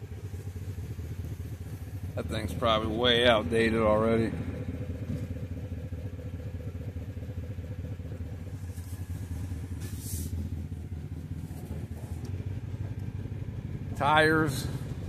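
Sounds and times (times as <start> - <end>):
small vehicle engine running: 0.0 - 15.0.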